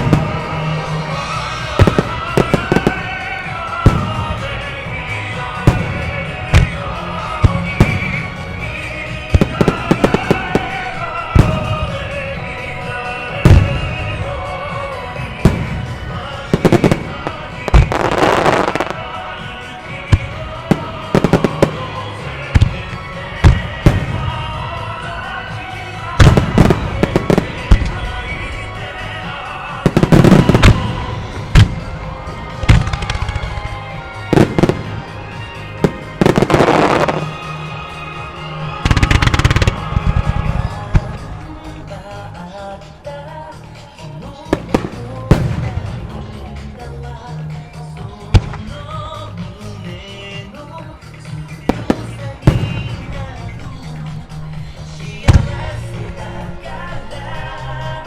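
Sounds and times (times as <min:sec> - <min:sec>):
firework crackling: 0:00.0 - 0:58.0
song through loudspeakers: 0:00.0 - 0:58.0.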